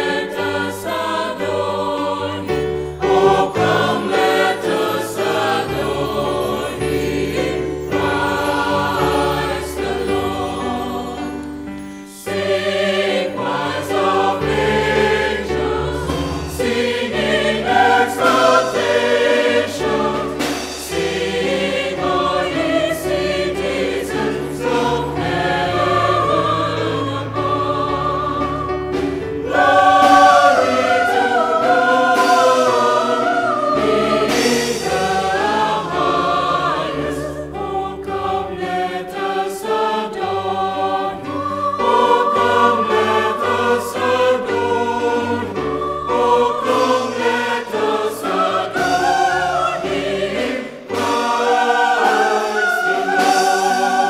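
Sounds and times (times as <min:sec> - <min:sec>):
mixed choir singing a carol: 0:00.0 - 0:54.0.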